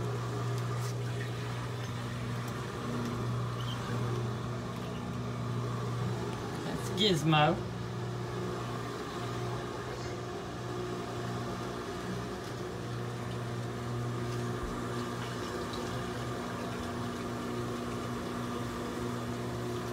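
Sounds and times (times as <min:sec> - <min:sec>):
motor humming: 0:00.0 - 0:19.9.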